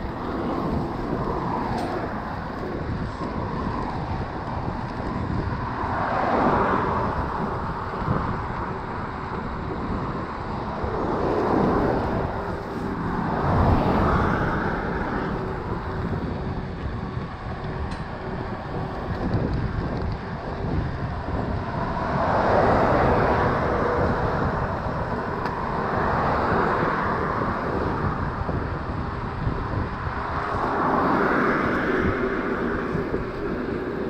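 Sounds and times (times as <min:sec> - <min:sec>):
bike tyres rolling on trail: 0:00.0 - 0:34.0
wind rushing over microphone: 0:00.0 - 0:34.0.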